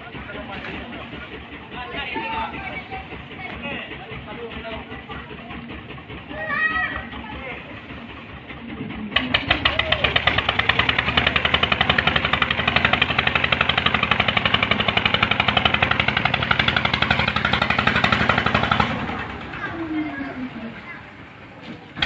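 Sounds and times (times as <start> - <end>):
machine knocking rapidly: 0.0 - 20.4.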